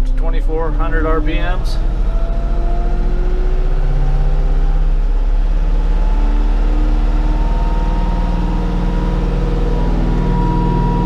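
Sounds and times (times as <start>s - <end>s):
tractor diesel engine revving: 0.0s - 11.0s.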